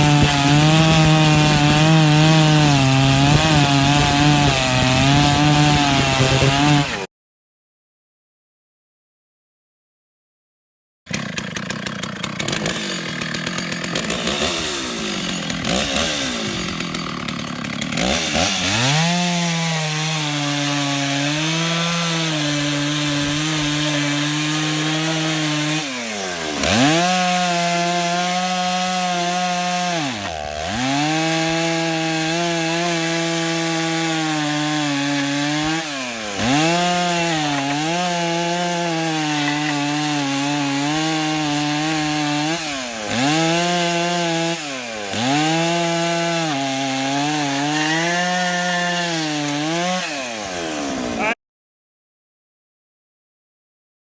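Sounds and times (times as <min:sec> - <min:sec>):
chainsaw cutting: 0:00.0 - 0:07.1, 0:11.1 - 0:51.4.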